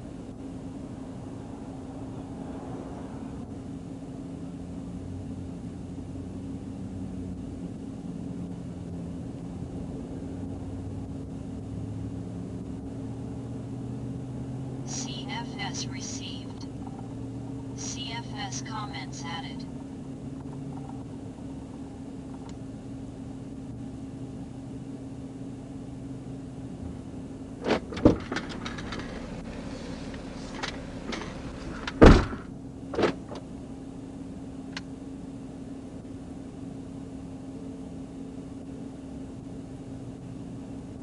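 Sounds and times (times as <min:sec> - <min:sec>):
vehicle interior hum: 0:00.0 - 0:41.0.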